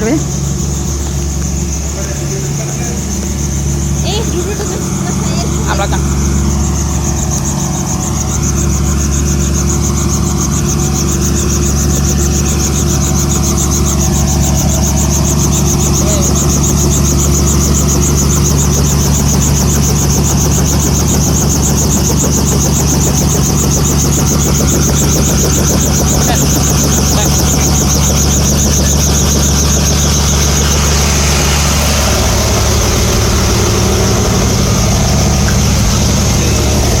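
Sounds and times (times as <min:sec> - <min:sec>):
faint high pulsing: 0:00.0 - 0:37.0
helicopter engine and rotor: 0:00.0 - 0:37.0.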